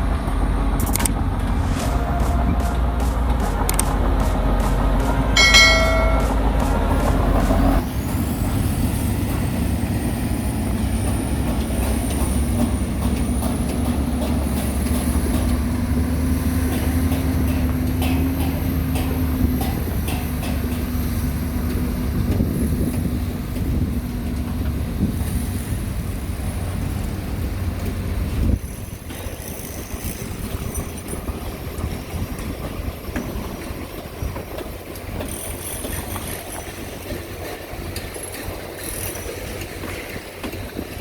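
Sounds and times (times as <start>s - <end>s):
diesel machinery rumbling: 0.0s - 41.0s.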